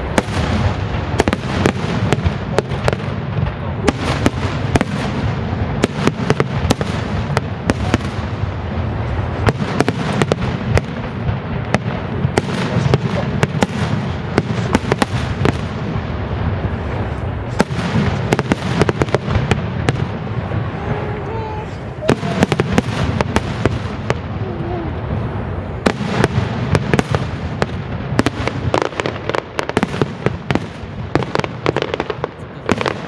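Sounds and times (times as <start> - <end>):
fireworks bangs and cracks: 0.0 - 33.0.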